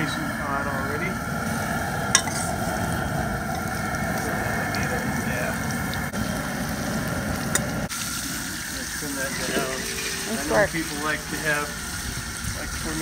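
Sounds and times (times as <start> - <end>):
food sizzling in hot grease: 0.0 - 13.0
gas burner rushing: 0.0 - 13.0.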